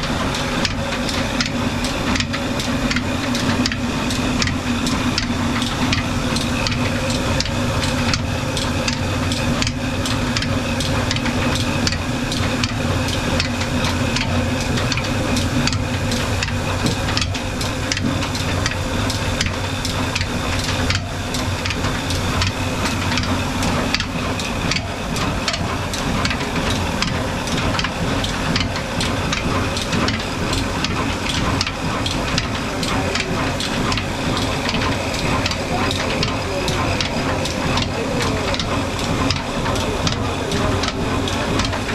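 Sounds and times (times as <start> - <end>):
diesel engine knocking: 0.0 - 41.9.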